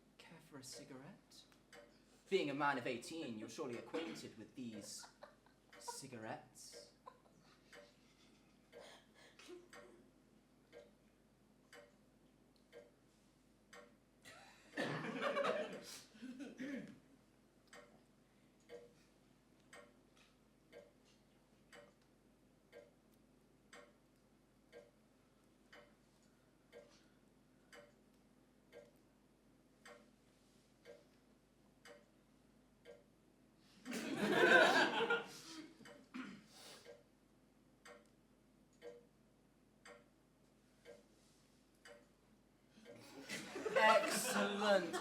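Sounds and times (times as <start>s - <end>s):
clock ticking: 0.4s - 15.8s, 17.6s - 30.2s, 30.8s - 33.2s, 35.8s - 37.2s, 37.8s - 39.2s, 39.8s - 43.0s.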